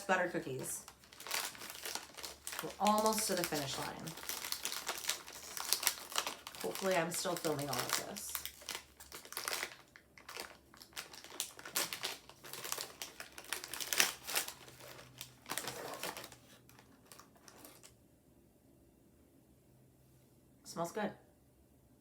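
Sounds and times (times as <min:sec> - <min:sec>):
plastic wrapper crinkling: 0:00.0 - 0:18.0.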